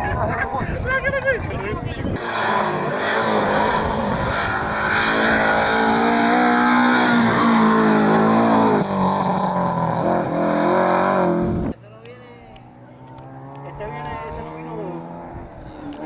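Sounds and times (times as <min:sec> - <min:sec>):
rally car engine accelerating: 0:02.2 - 0:11.8, 0:12.5 - 0:16.0.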